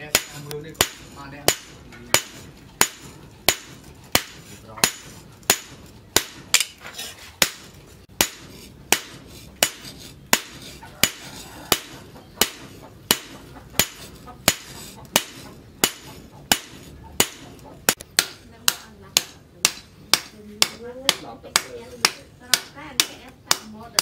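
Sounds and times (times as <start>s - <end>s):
hammer striking metal on anvil: 0.0s - 6.8s, 7.4s - 24.0s.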